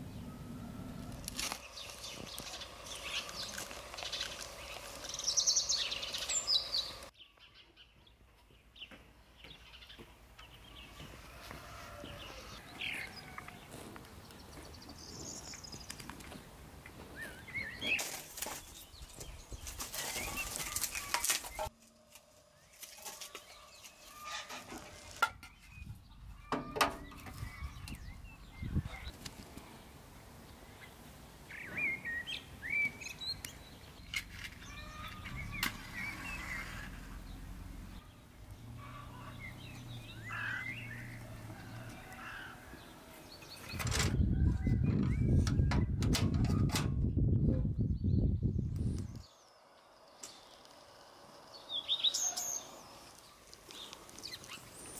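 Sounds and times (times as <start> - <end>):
birds chirping and calling: 0.0 - 21.7, 22.6 - 29.2, 30.6 - 54.9.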